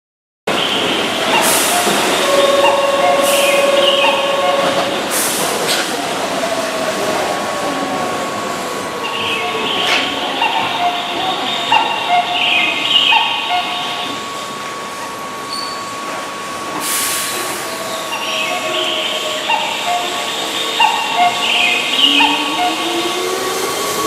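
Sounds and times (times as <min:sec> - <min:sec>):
electric train running on rails: 0:00.5 - 0:24.0.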